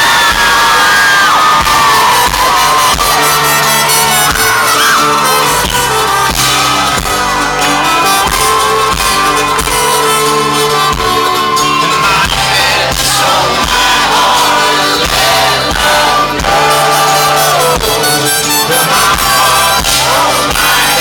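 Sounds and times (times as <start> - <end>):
live folk-rock band playing: 0.0 - 21.0.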